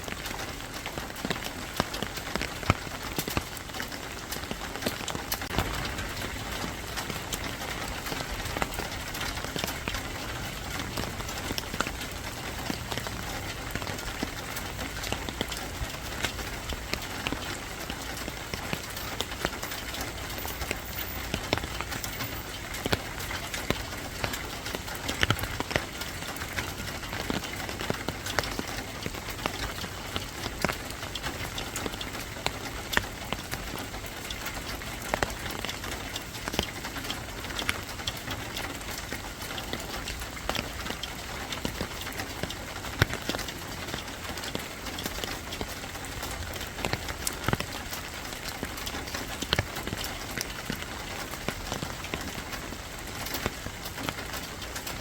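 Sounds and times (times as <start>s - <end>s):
rain drops ticking on hard surface: 0.0s - 55.0s.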